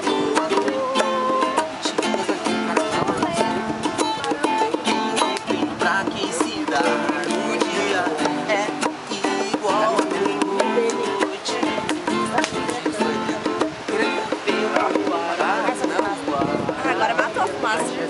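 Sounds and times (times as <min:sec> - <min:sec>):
plucked-string instrument strumming chords: 0:00.0 - 0:18.0.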